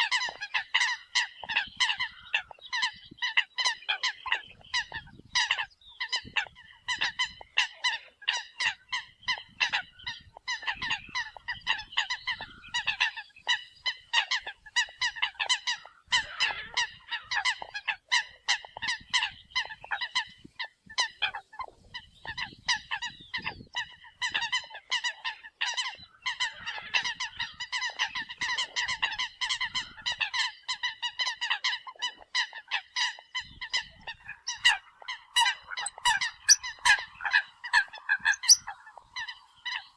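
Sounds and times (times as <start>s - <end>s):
coots calling rapidly: 0.0s - 39.9s.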